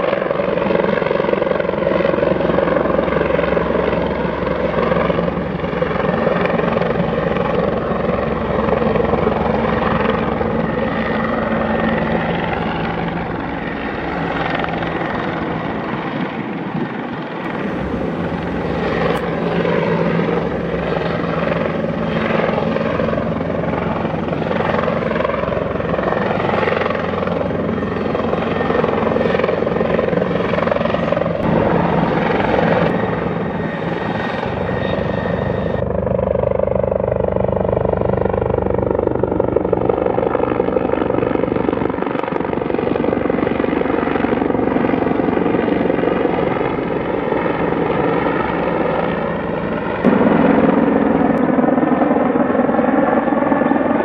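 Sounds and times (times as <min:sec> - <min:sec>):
helicopter flying past: 0:00.0 - 0:54.0.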